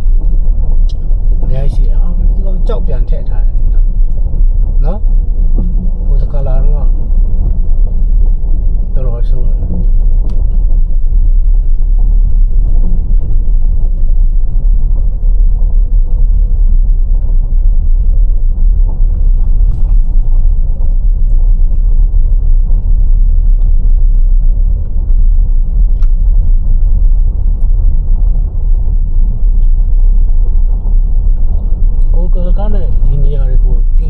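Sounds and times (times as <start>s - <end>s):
loud low rumble: 0.0s - 34.0s.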